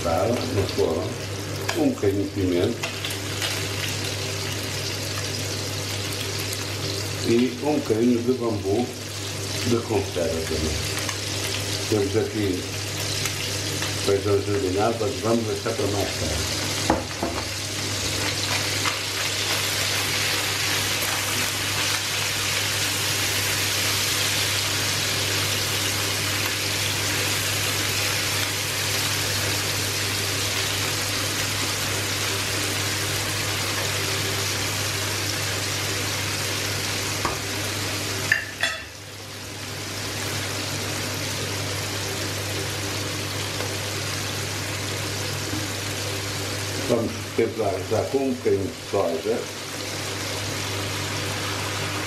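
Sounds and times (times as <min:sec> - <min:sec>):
food sizzling in frying pan: 0:00.0 - 0:52.0.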